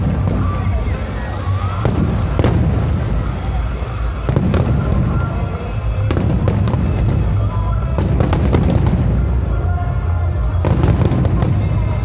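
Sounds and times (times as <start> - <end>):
fireworks bangs and crackles: 0.0 - 12.0
low rumble of fireworks bursts: 0.0 - 12.0.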